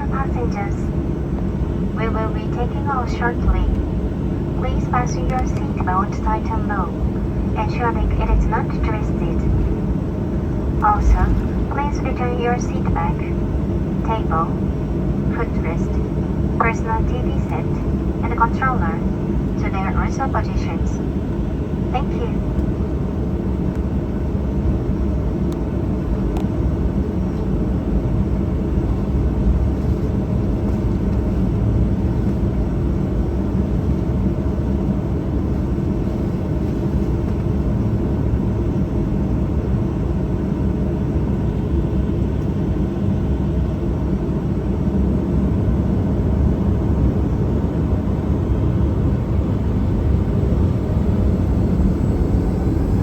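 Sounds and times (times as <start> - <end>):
aircraft cabin engine rumble: 0.0 - 53.0.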